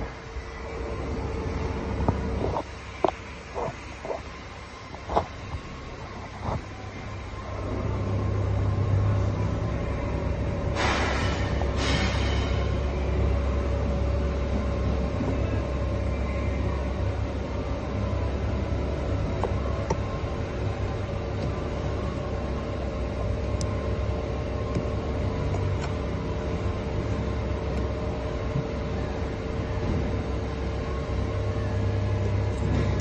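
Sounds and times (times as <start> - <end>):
faint constant hum: 0.0 - 33.0
low mechanical rumble: 0.0 - 33.0.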